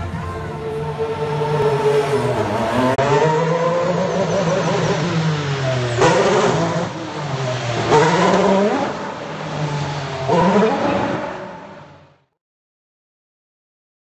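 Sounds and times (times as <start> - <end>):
race car engines at low revs: 0.0 - 12.4.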